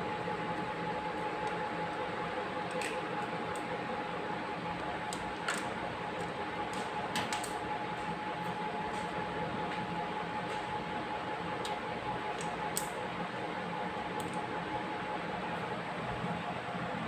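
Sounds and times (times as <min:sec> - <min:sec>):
steady hum with faint tone: 0:00.0 - 0:17.0.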